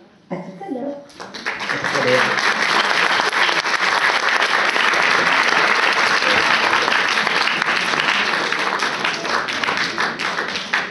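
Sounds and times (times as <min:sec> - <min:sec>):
audience applauding: 0:01.1 - 0:10.9.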